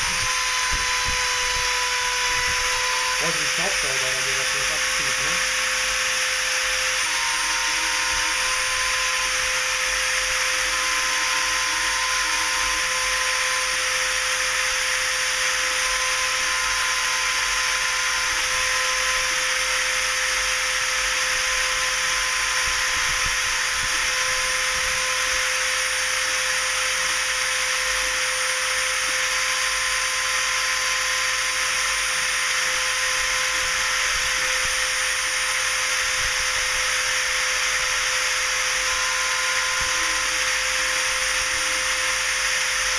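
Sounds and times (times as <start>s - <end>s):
rotary tool spindle whining: 0.0s - 42.9s.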